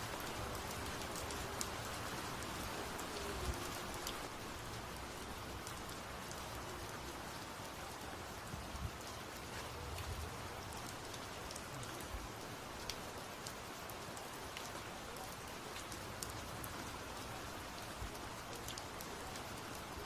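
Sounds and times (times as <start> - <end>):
raindrops striking close by: 0.0 - 20.0
steady rain hiss: 0.0 - 20.0.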